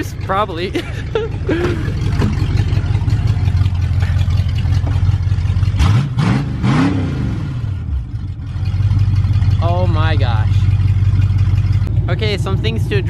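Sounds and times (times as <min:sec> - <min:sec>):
loud car engine idling and revving: 0:00.0 - 0:13.0.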